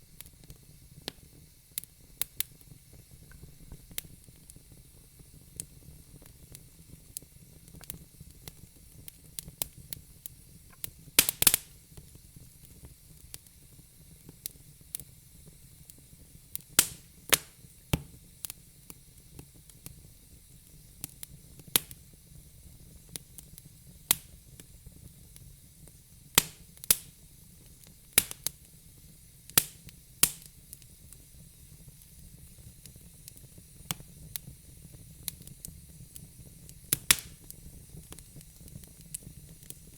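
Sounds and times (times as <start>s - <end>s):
fire crackling and popping: 0.0s - 39.9s
soft steady hiss: 0.0s - 39.9s.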